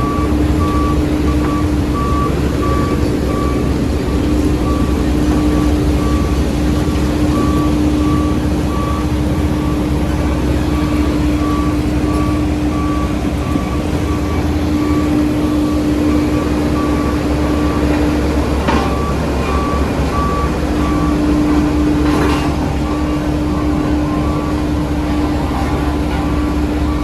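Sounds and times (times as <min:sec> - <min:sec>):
diesel machinery engine hum: 0:00.0 - 0:27.0
reverse alarm beeping: 0:00.0 - 0:27.0.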